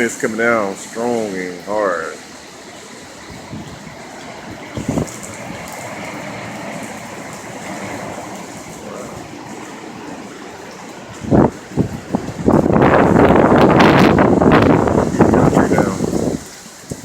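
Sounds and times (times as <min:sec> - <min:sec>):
hurricane wind and rain: 0:00.0 - 0:17.0.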